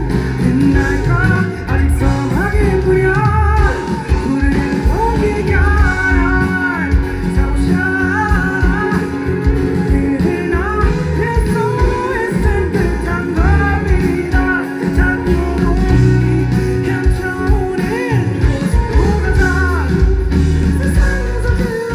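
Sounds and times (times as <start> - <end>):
live rock band playing: 0.0 - 21.9
person singing: 0.0 - 21.9.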